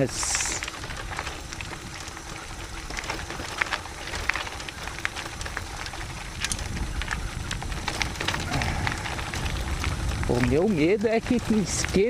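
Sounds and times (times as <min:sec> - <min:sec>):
bike tyres crunching on leaves: 0:00.0 - 0:12.0
low rumble: 0:00.0 - 0:12.0.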